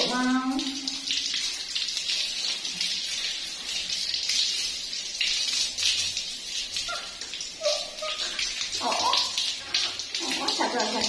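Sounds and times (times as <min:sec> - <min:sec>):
tap water splashing on fur: 0:00.0 - 0:11.0.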